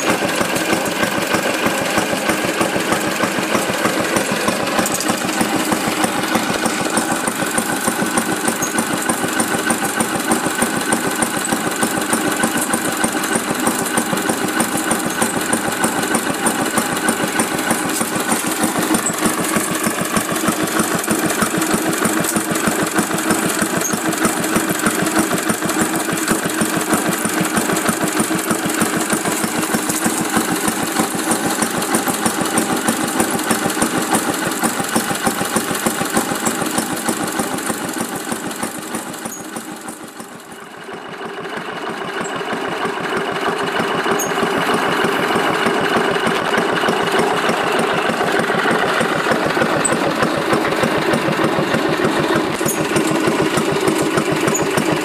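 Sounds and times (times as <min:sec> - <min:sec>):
engine idling slowly: 0:00.0 - 0:55.0.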